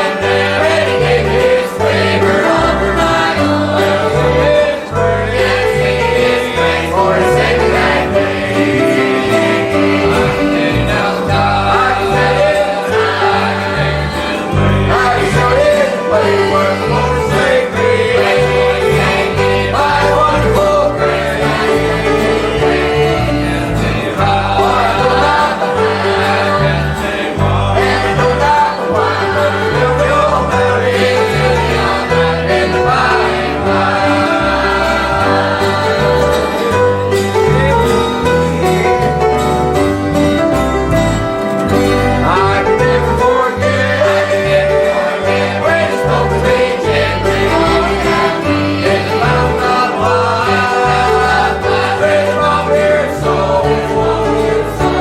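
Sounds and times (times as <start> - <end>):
accompanying instruments: 0.0 - 55.0
gospel singing: 0.0 - 55.0
steady bass line: 0.3 - 55.0.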